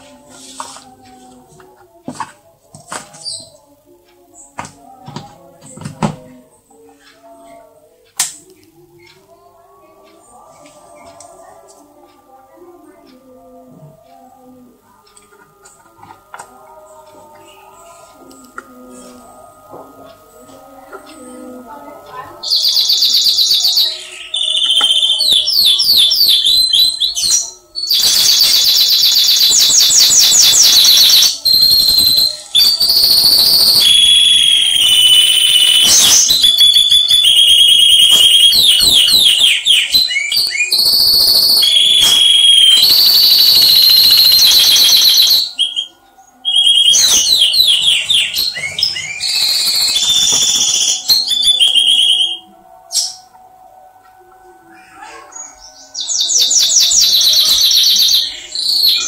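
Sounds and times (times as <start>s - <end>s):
recorded songbird song through speaker: 0.0s - 59.0s.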